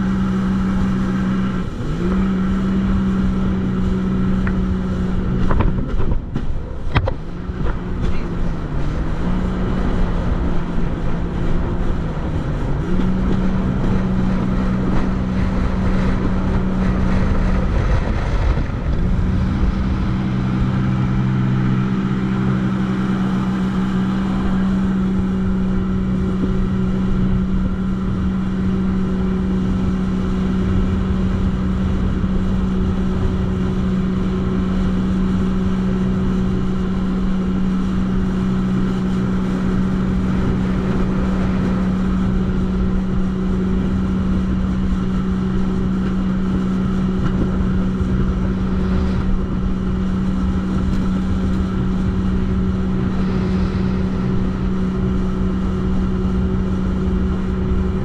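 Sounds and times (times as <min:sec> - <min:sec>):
jetski engine running: 0:00.0 - 0:58.0
rough low rush: 0:00.0 - 0:58.0.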